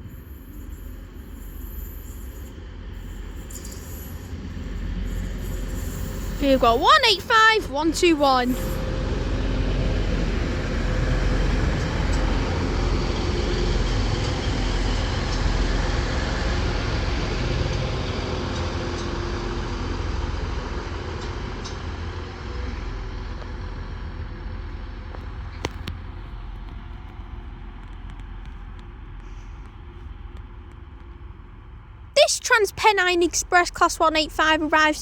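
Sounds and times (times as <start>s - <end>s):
train engine and wheel noise: 0.0s - 35.0s.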